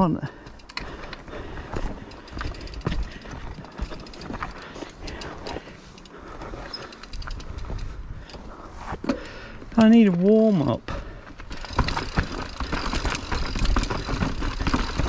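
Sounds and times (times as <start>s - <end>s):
bike parts clicking and knocking: 0.3s - 15.0s.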